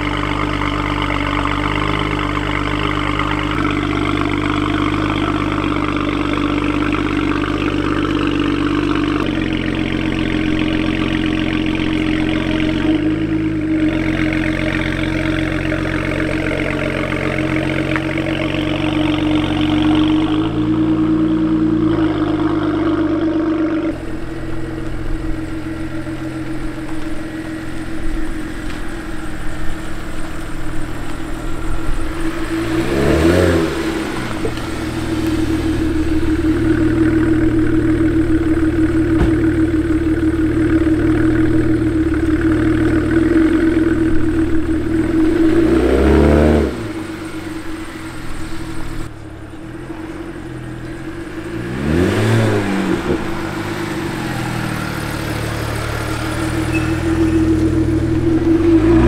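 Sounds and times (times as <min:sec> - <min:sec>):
car engine running and revving: 0:00.0 - 0:59.0.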